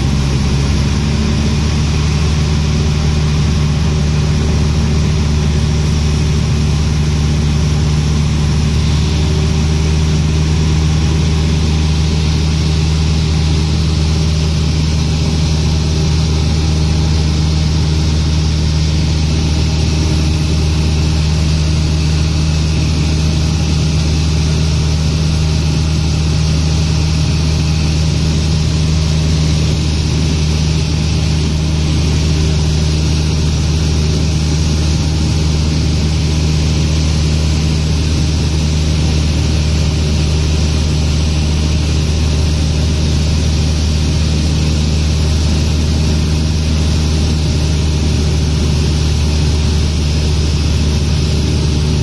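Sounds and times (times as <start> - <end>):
airplane engine drone in cockpit: 0.0 - 52.0.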